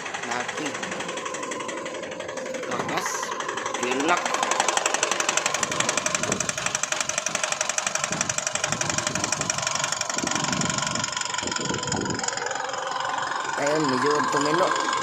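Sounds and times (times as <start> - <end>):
diesel engine knocking: 0.0 - 15.0.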